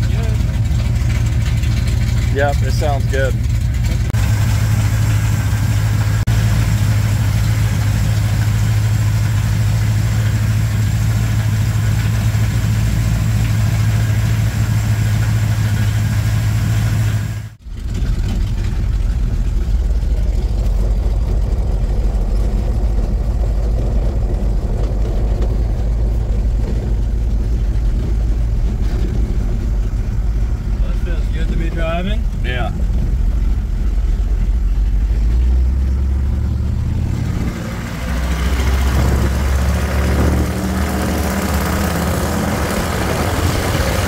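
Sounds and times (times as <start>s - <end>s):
truck driving drone from cab: 0.0s - 44.0s
truck engine idling: 0.0s - 44.0s.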